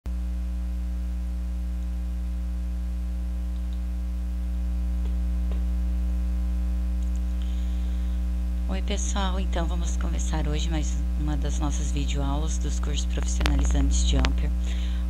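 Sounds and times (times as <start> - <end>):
electrical mains hum: 0.1 - 15.0.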